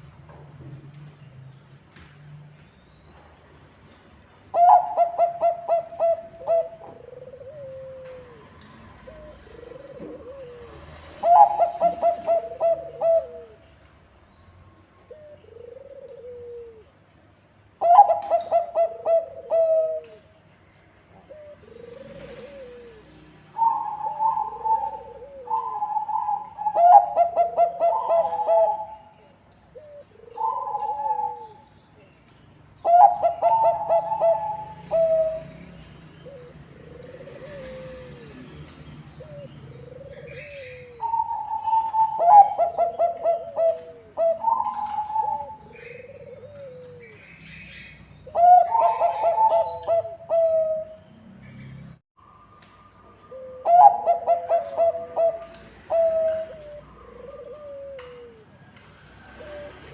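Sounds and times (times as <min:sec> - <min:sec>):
dove cooing: 0:04.5 - 0:13.7, 0:15.0 - 0:17.0, 0:17.8 - 0:20.3, 0:21.1 - 0:32.2, 0:32.8 - 0:51.1, 0:53.2 - 0:59.9.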